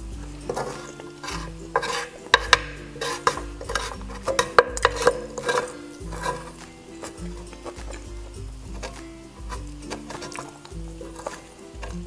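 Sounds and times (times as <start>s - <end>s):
soft background music: 0.0s - 12.0s
wooden spoon scraping frying pan: 0.0s - 12.0s.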